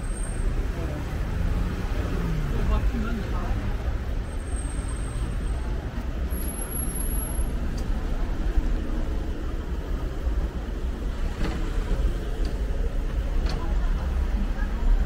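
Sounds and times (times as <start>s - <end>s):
car engines passing: 0.0s - 15.0s.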